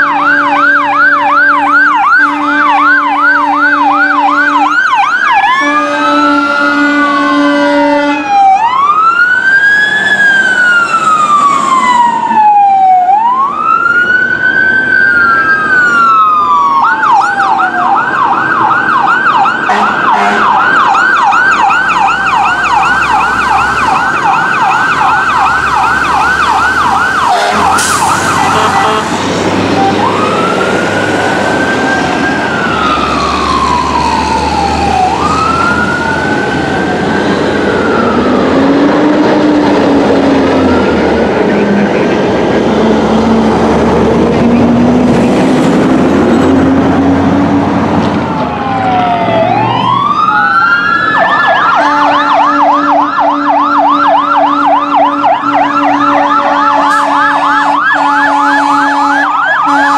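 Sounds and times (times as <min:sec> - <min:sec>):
emergency siren wailing and yelping: 0:00.0 - 0:59.9
passing engines: 0:00.0 - 0:59.9.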